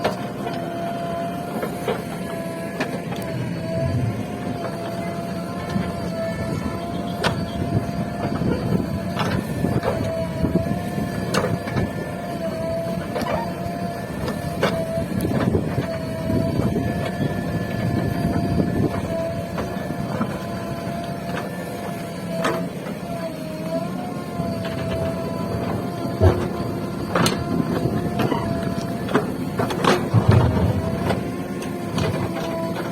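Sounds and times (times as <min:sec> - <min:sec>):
diesel engine under load: 0:00.0 - 0:32.9
hydraulic whine: 0:00.0 - 0:32.9.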